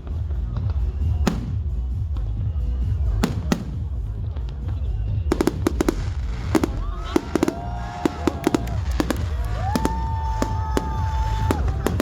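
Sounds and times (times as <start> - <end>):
fireworks bangs: 0.1 - 12.0.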